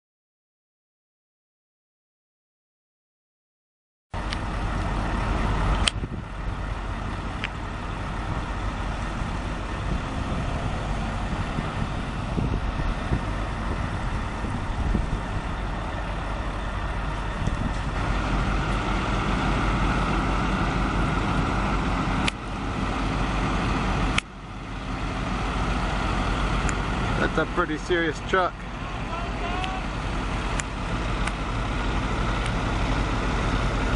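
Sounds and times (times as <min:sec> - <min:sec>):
road noise: 0:04.2 - 0:33.9
truck engine rumbling: 0:04.2 - 0:33.9.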